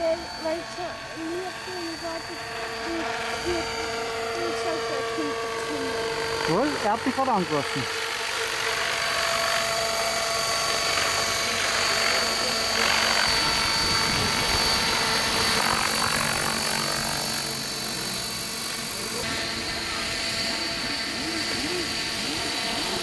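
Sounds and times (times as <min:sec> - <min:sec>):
high whine: 0:00.0 - 0:23.0
model helicopter rotor noise: 0:00.0 - 0:23.0.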